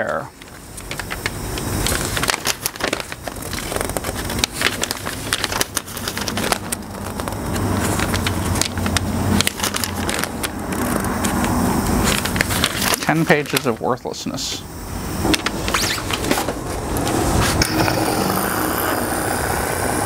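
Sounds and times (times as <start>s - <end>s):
paper sheets rustling: 0.4s - 14.6s, 15.2s - 17.6s.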